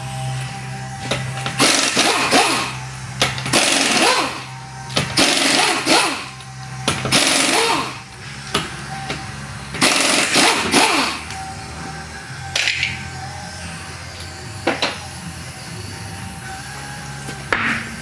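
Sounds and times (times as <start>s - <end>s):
pneumatic impact wrench: 0.0s - 11.6s, 12.4s - 18.0s.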